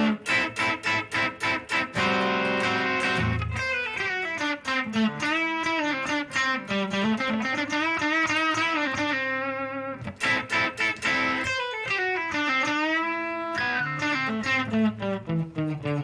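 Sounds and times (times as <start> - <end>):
electric guitar lead lines: 0.0 - 16.0.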